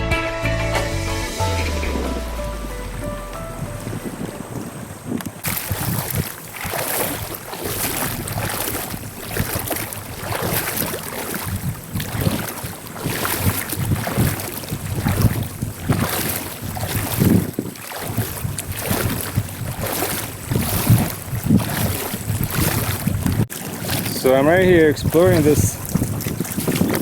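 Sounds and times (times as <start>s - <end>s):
rushing water and wind: 1.4s - 27.0s
wind buffeting microphone: 1.7s - 27.0s.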